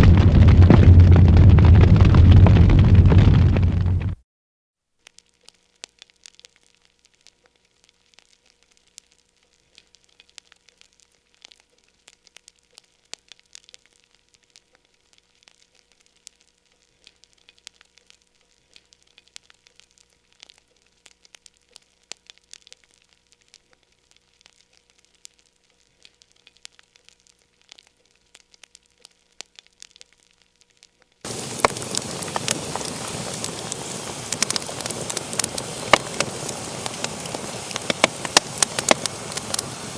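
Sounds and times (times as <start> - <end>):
wood fire crackling: 0.0 - 4.2, 5.6 - 39.9.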